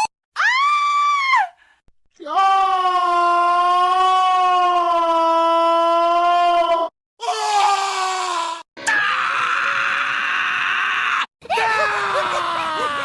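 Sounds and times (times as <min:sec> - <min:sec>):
cartoon character screaming: 0:02.3 - 0:13.0.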